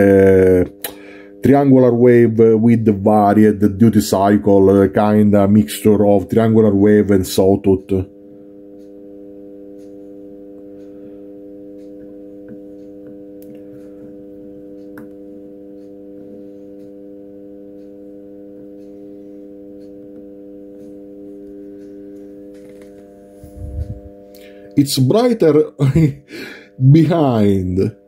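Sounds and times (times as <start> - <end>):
low buzzing test tone: 0.0 - 28.0.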